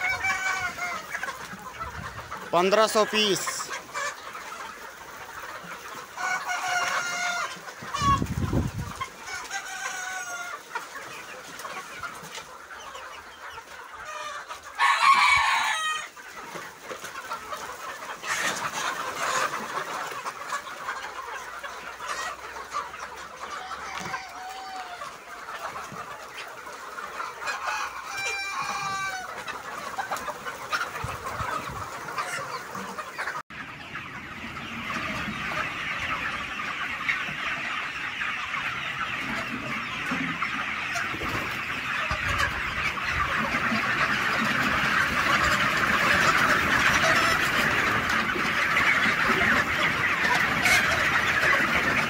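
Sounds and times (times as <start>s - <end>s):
flock of chickens clucking: 0.0s - 52.0s.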